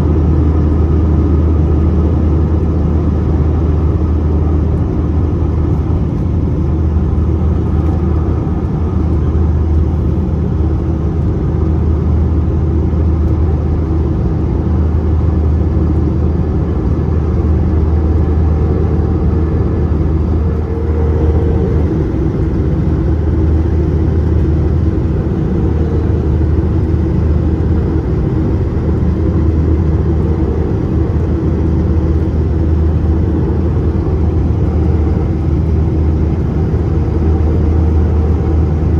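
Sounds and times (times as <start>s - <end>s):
airplane cabin engine rumble: 0.0s - 38.9s
faint steady hum: 0.0s - 38.9s.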